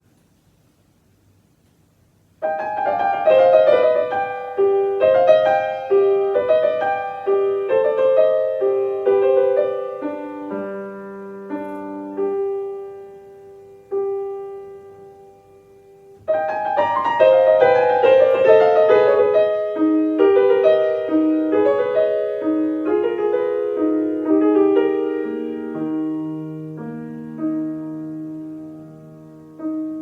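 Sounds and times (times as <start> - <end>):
solo piano piece: 2.0 - 30.0.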